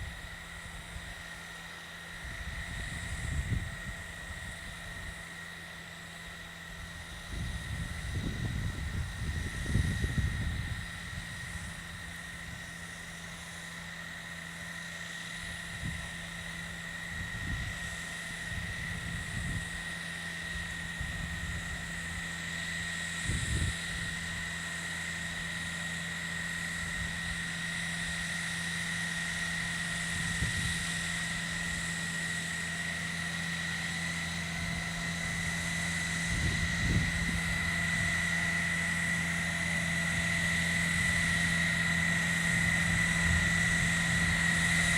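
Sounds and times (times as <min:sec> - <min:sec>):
garden tractor engine running: 0:00.0 - 0:44.9
snow blower whine: 0:00.0 - 0:44.9.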